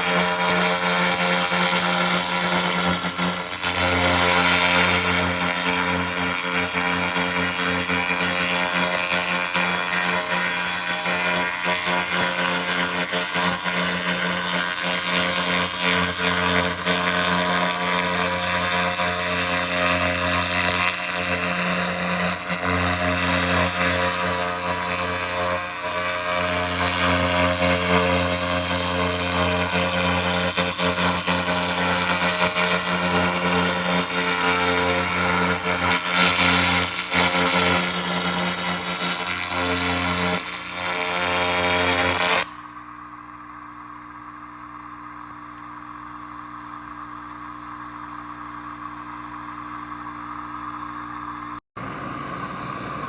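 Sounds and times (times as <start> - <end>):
laser rust remover hissing: 0.0 - 53.0.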